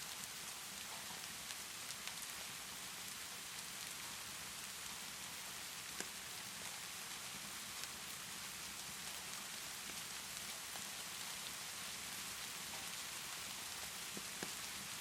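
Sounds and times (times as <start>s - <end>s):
rain on a surface: 0.0s - 15.0s.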